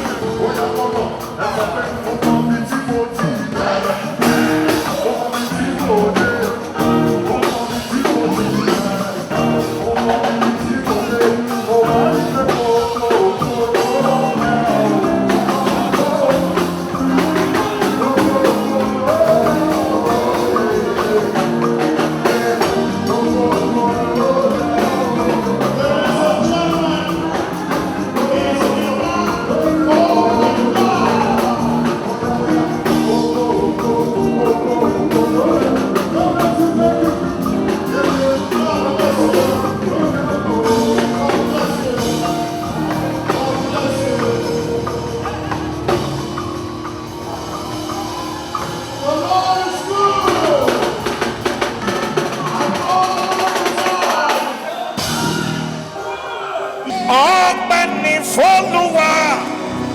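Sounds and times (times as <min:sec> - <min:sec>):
gospel song with band: 0:00.0 - 0:59.9.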